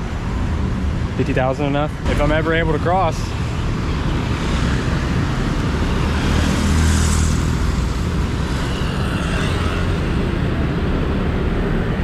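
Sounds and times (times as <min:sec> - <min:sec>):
cars and motorbikes passing: 0:00.0 - 0:12.0.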